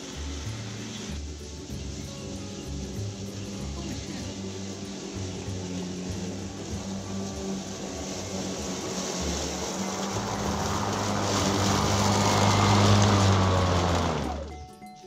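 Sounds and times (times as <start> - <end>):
electric lawn mower whirring: 0.0 - 14.7.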